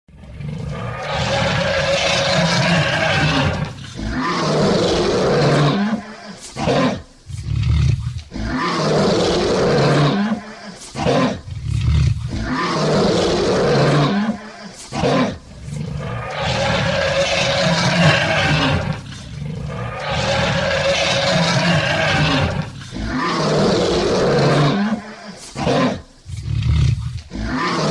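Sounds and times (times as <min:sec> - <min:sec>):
lion roaring: 0:00.1 - 0:27.9.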